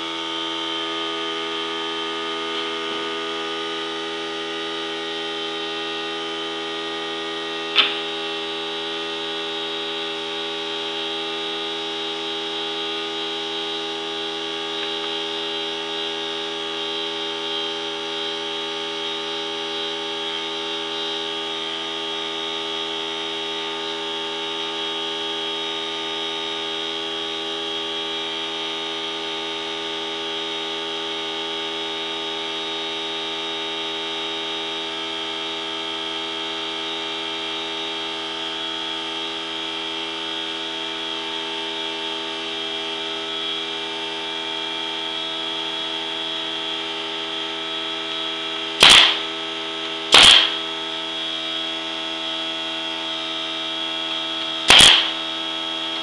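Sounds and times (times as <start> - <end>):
machine humming with high whine: 0.0 - 56.0.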